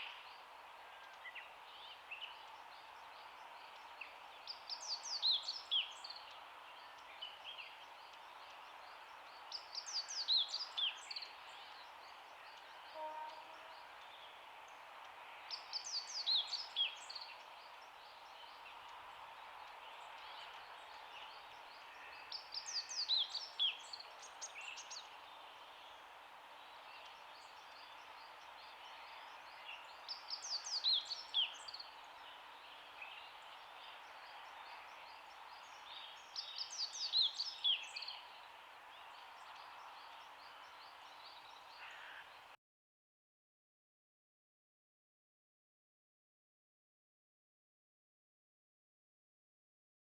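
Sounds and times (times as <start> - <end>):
outdoor background hiss: 0.0 - 42.6
songbird singing: 0.0 - 42.6.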